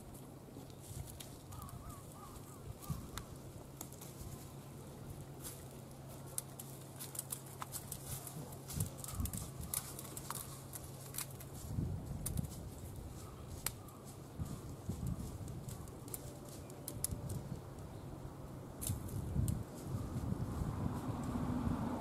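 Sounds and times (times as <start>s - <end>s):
rustling in dry leaf litter: 0.0s - 17.9s, 18.8s - 22.0s.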